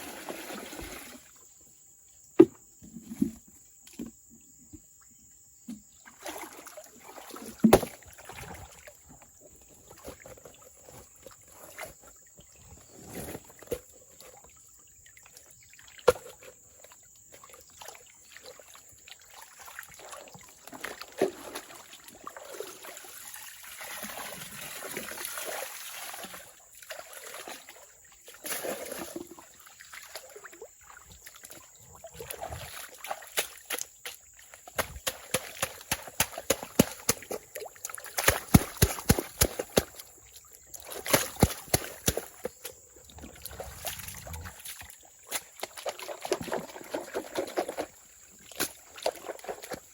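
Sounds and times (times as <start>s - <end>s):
water sloshing and splashing: 0.0s - 1.5s, 5.9s - 49.9s.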